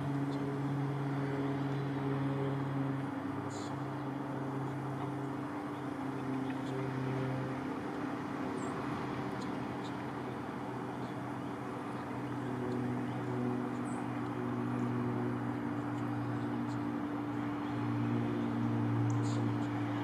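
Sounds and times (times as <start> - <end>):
motor droning hum: 0.0 - 20.0.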